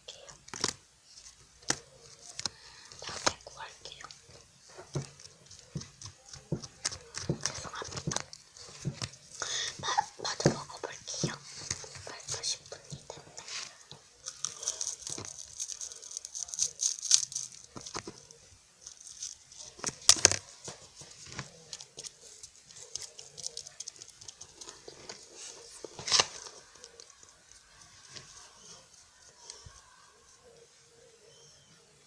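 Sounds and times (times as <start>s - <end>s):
plastic wrapper crinkling and tearing: 0.1s - 4.2s, 4.9s - 30.0s.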